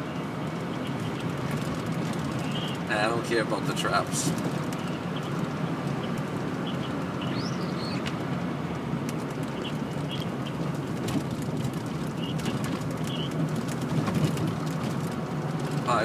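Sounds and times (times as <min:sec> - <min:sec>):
car cabin engine and road noise: 0:00.0 - 0:16.0.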